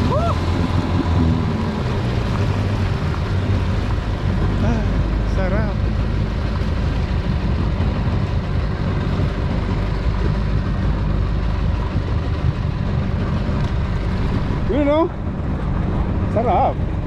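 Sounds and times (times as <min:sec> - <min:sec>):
jet ski engine drone: 0:00.0 - 0:17.0.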